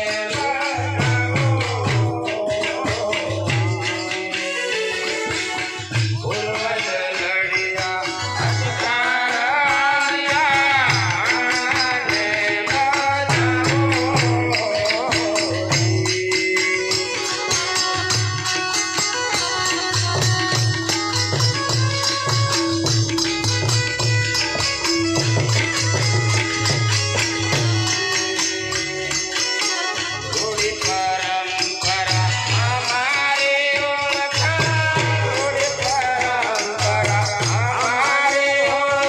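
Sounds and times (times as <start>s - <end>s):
man singing: 0.0s - 39.0s
rapid jingling percussion: 0.0s - 39.0s
steady drum beat: 0.0s - 39.0s.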